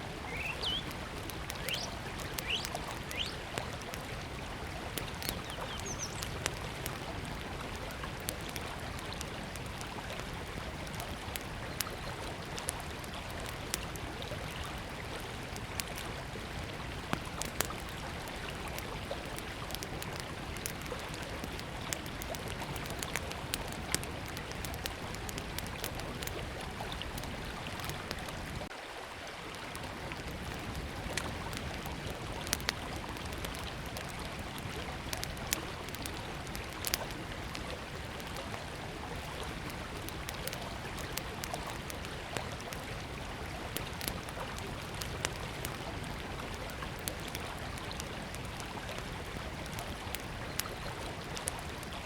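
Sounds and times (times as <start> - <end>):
campfire crackling: 0.0 - 52.0
river water flowing: 0.0 - 52.0.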